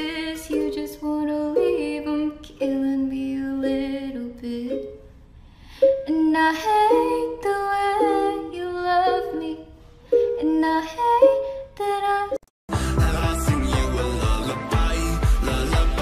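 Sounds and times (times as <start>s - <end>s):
slow gentle song: 0.0s - 16.0s.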